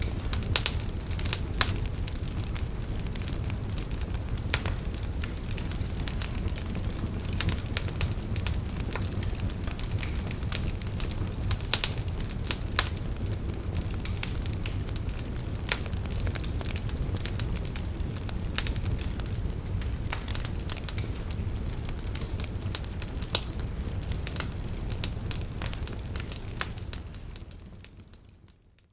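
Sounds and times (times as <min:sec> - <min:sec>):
bonfire crackling and popping: 0:00.0 - 0:28.9
low rumble of flames: 0:00.0 - 0:28.9.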